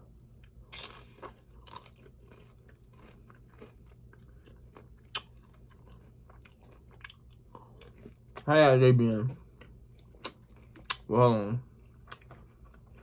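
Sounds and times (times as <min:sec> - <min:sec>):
chewing and crunching chips: 0:00.0 - 0:08.6, 0:09.4 - 0:13.0.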